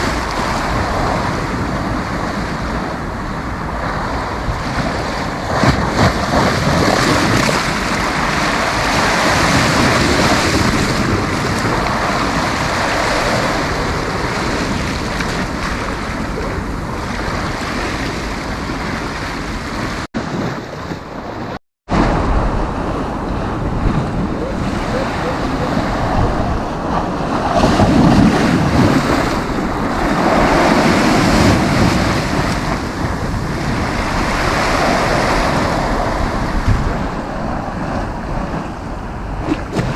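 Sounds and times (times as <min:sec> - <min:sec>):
sea waves on beach: 0:00.0 - 0:39.9
wind buffeting microphone: 0:00.0 - 0:39.9.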